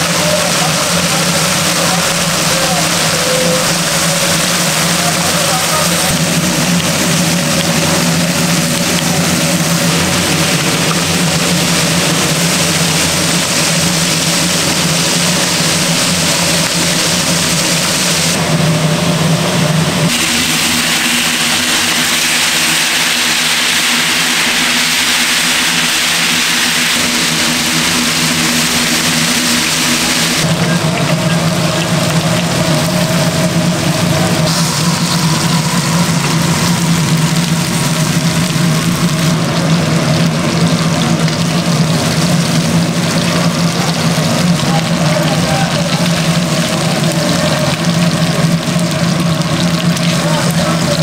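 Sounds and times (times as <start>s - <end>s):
loud machine hum with hiss: 0.0s - 51.0s.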